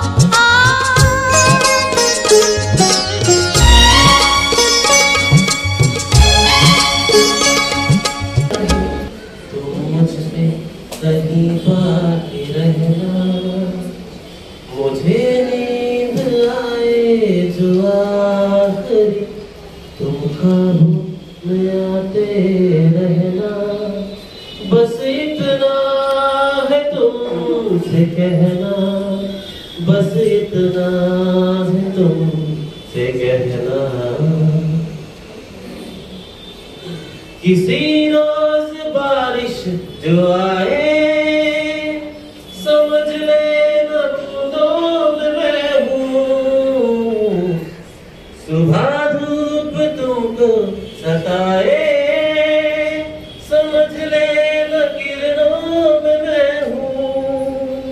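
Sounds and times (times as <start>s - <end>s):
man singing into microphone: 0.0s - 3.3s, 9.5s - 14.1s, 14.7s - 35.2s, 37.4s - 57.9s.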